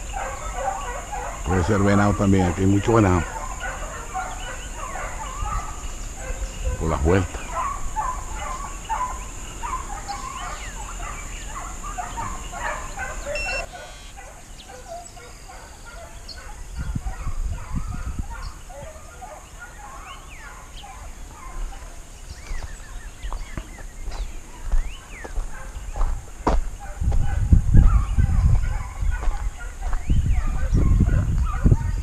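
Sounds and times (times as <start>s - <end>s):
distant hounds baying: 0.0s - 32.0s.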